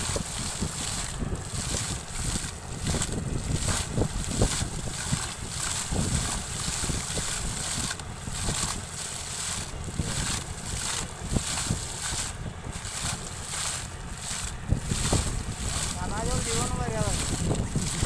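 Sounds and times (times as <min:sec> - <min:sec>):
water and air gushing from pipe: 0:00.0 - 0:18.0
wind rumble on microphone: 0:00.0 - 0:18.0.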